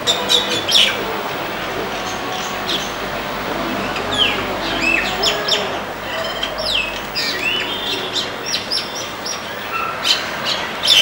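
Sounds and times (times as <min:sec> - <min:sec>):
myna calling: 0:00.0 - 0:10.2.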